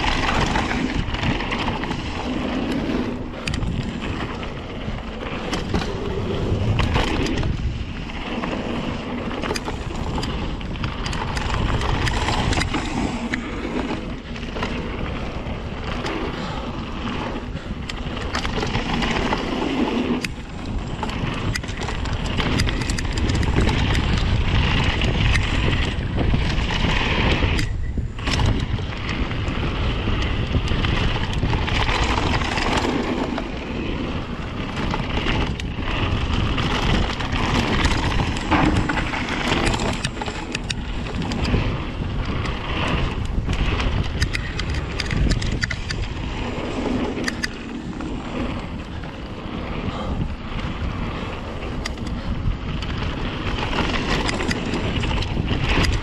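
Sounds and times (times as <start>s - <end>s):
bike clicking and rattling: 0.0s - 56.0s
tyres rushing over dirt: 0.0s - 56.0s
wind buffeting microphone: 0.0s - 56.0s.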